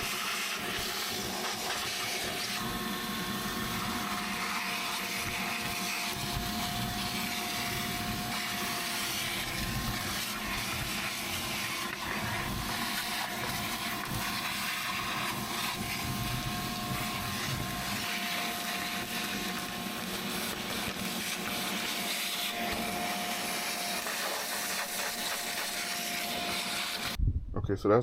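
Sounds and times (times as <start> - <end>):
vacuum cleaner running: 0.0 - 27.2.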